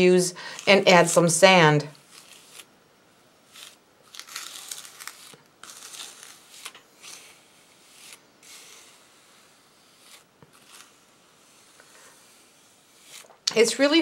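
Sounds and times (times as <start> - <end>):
palette knife scraping paste: 0.4 - 2.7, 3.5 - 14.0.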